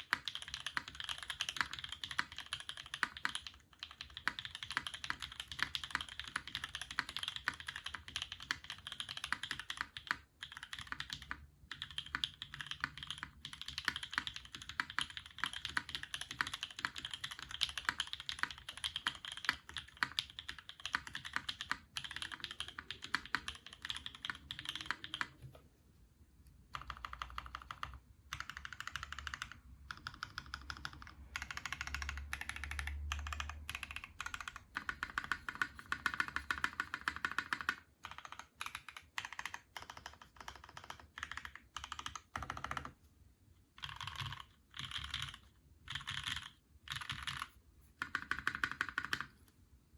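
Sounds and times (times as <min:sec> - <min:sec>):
mechanical keyboard typing: 0:00.0 - 0:25.6, 0:26.7 - 0:43.1, 0:43.7 - 0:49.5.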